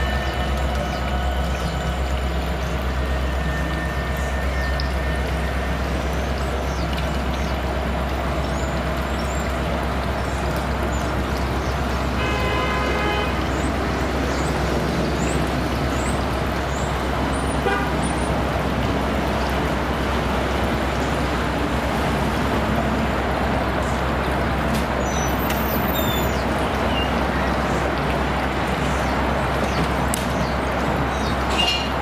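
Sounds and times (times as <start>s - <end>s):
vehicle noise: 0.0s - 32.0s.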